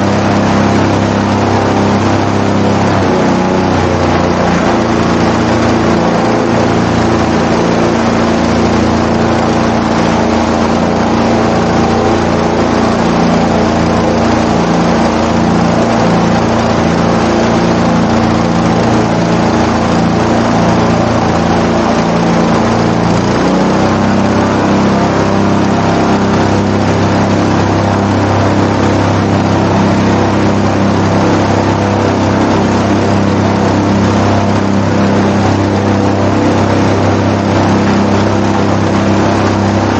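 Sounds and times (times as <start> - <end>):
airboat engine and propeller: 0.0 - 39.9.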